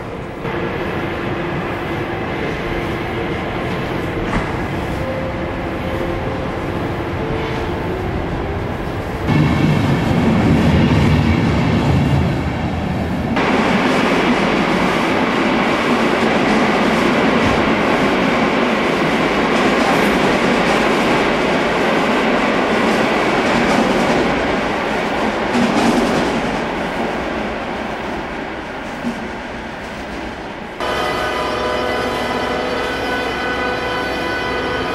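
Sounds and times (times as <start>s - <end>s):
train running on rails: 0.0s - 34.9s.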